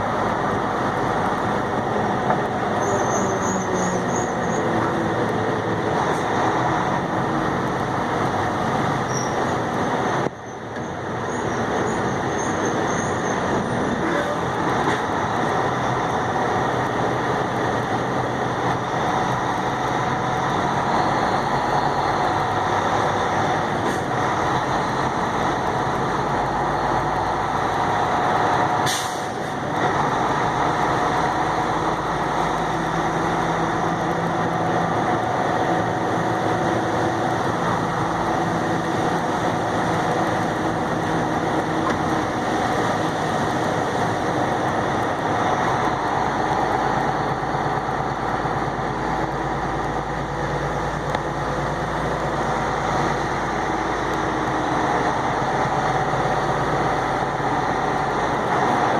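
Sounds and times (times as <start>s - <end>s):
truck engine and road noise: 0.0s - 58.9s.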